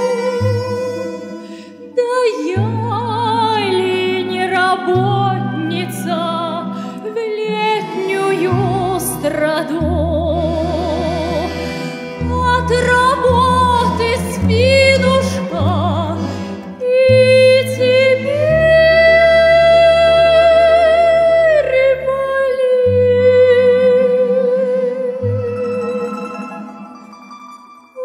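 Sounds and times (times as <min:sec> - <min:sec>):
woman singing operatically: 0:00.0 - 0:11.6, 0:12.2 - 0:26.6
folk instrument orchestra: 0:00.0 - 0:22.6, 0:23.2 - 0:28.0.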